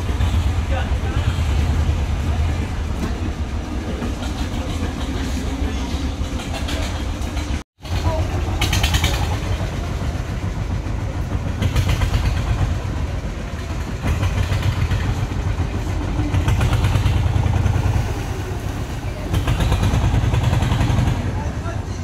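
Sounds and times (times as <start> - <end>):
boat engine throbbing: 0.0 - 22.0.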